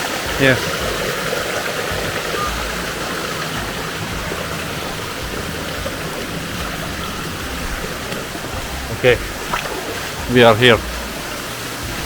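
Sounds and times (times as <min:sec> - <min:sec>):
waterfall and stream rushing: 0:00.0 - 0:12.0.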